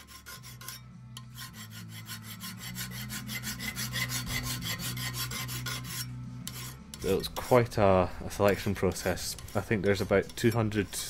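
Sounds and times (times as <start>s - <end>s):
file scraping steel blade: 0.0s - 7.7s, 8.3s - 11.0s.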